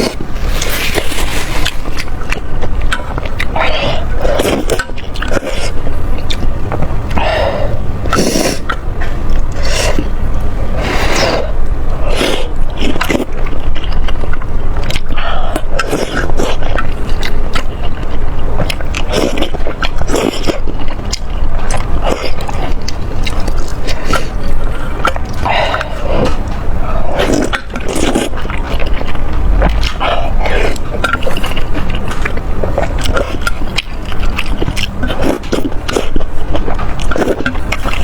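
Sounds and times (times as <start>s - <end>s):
chewing and mouth noises: 0.0s - 38.0s
steady low hum: 0.0s - 38.0s.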